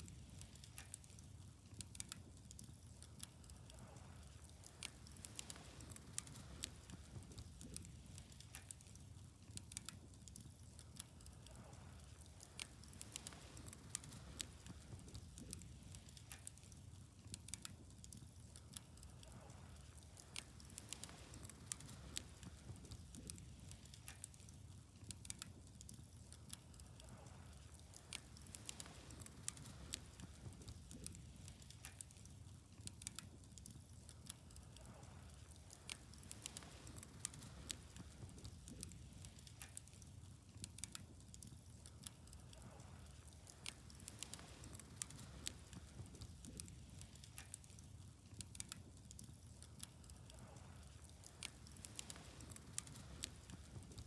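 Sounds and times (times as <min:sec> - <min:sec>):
faint low rumble: 0:00.0 - 0:54.0
wood fire crackling and popping: 0:00.0 - 0:54.0.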